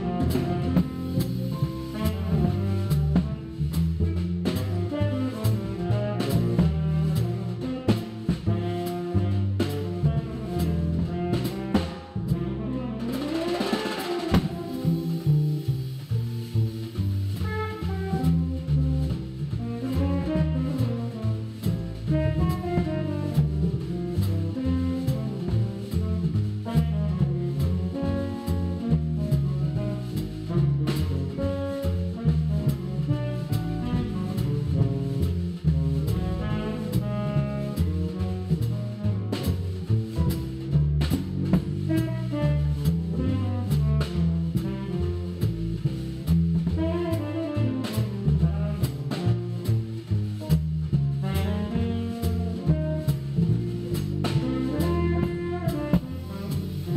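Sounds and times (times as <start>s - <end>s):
jazz music with saxophone and brass: 0.0s - 56.9s.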